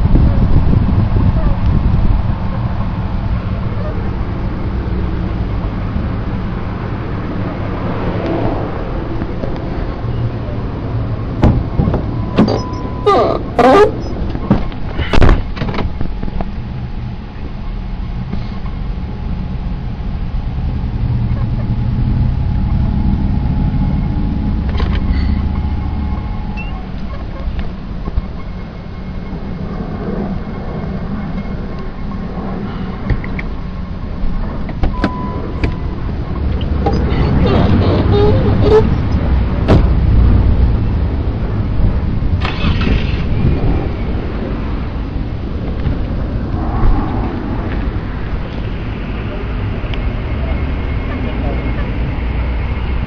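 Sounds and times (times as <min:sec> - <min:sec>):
low outdoor rumble: 0:00.0 - 0:53.0.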